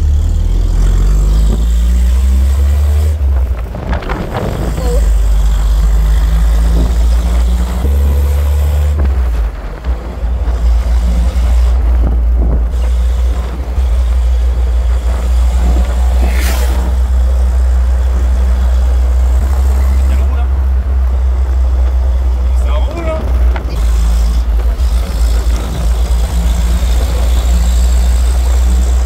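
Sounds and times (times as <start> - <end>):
car engine droning: 0.0 - 29.0
road noise: 0.0 - 29.0
wind noise: 1.2 - 27.7.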